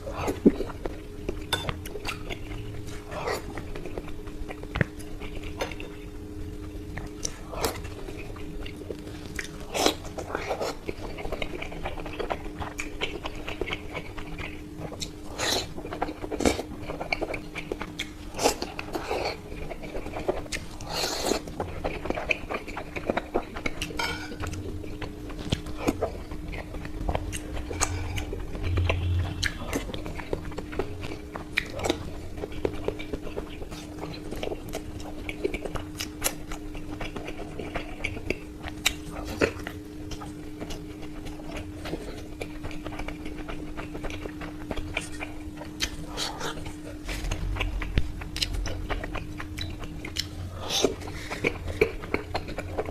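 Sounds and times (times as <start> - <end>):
faint steady hum: 0.0 - 52.9
wet chewing and crunchy bites: 0.0 - 52.9.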